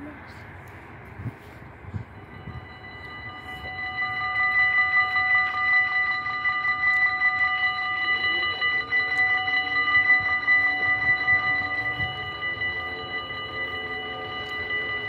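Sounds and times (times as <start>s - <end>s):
level-crossing bell ringing: 2.0s - 15.0s.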